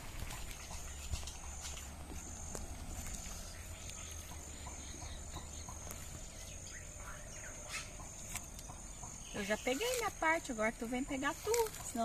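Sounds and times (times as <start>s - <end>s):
insect trill: 0.0s - 12.0s
small birds chirping: 0.0s - 12.0s.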